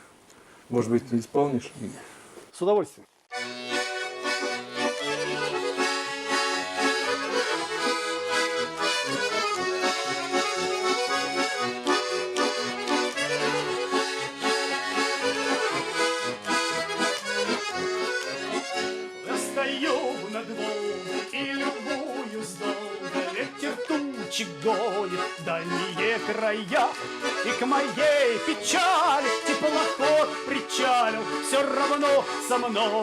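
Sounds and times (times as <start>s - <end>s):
accordion folk melody: 3.3s - 33.0s.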